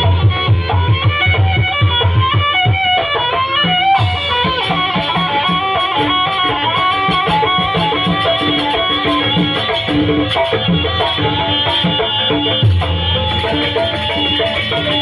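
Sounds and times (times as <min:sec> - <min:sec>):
drum beats: 0:00.0 - 0:15.0.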